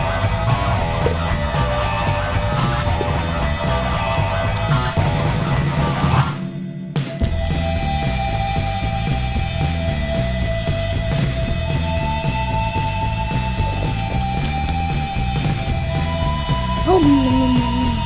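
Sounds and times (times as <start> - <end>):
bass line: 0.0 - 6.3, 7.2 - 18.0.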